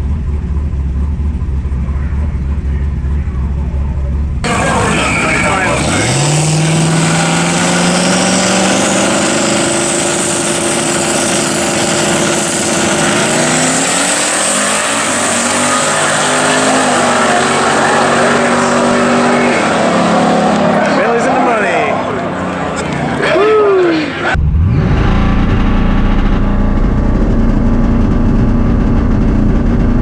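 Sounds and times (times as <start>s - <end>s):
racing car engine accelerating: 0.0s - 30.0s.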